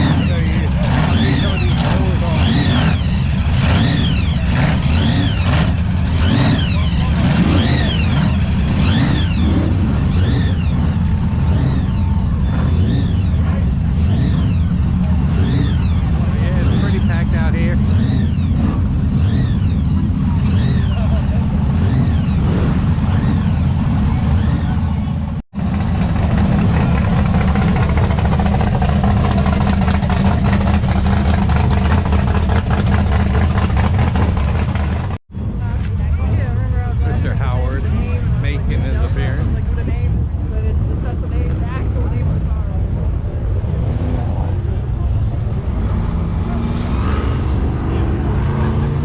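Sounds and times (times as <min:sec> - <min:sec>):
vehicle engines rumbling: 0:00.0 - 0:49.0.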